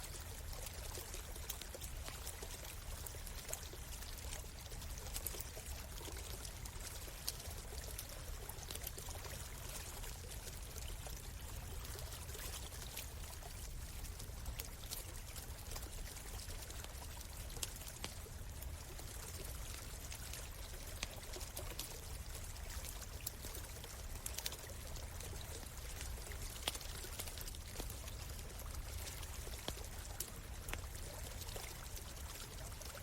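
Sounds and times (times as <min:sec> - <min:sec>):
stream flowing: 0:00.0 - 0:33.0
campfire crackling and popping: 0:00.4 - 0:33.0.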